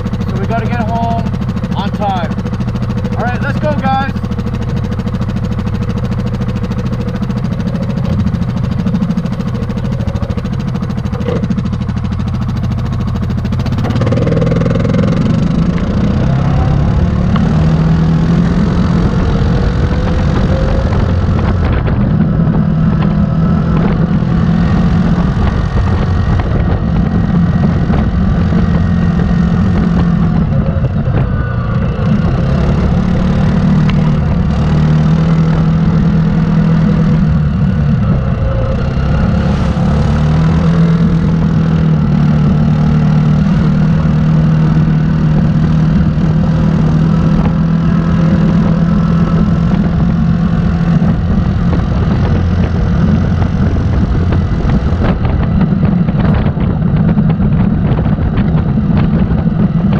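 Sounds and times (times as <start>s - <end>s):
atv engine: 0.0s - 59.9s.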